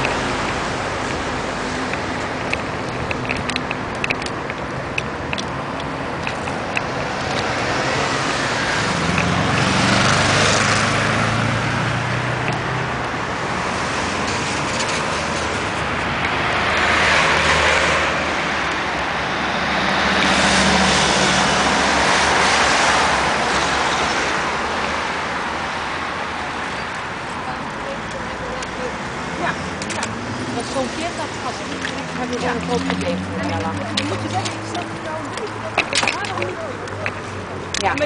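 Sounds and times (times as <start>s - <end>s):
vehicles passing close by: 0.0s - 38.0s.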